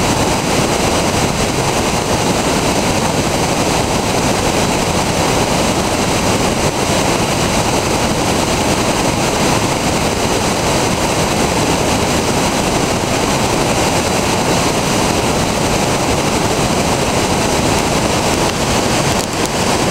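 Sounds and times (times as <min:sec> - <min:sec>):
rapids rushing over boulders: 0:00.0 - 0:19.9.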